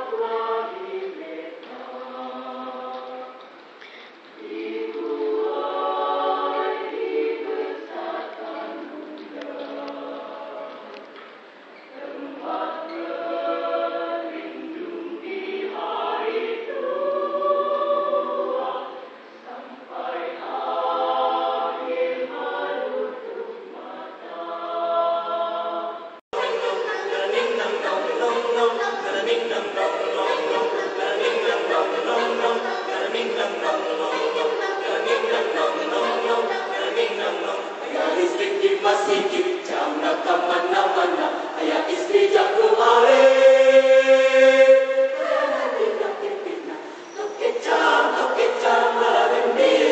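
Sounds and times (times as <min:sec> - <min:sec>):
choir singing: 0:00.0 - 0:03.5, 0:04.3 - 0:11.1, 0:11.8 - 0:49.9.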